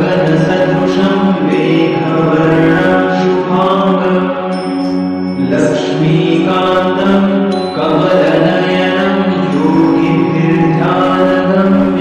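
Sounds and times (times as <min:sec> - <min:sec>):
slow devotional chant: 0:00.0 - 0:04.7, 0:05.4 - 0:12.0.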